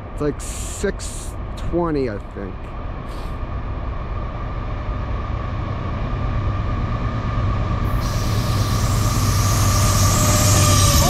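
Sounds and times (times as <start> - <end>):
locomotive engine drone: 0.0 - 11.0
steady whine: 0.0 - 11.0.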